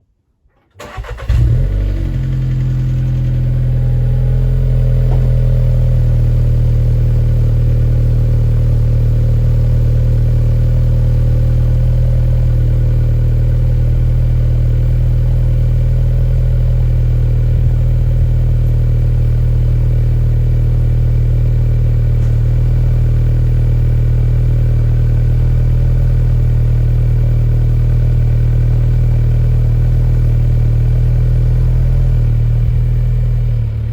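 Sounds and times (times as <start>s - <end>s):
car engine starting and idling: 0.6s - 33.9s.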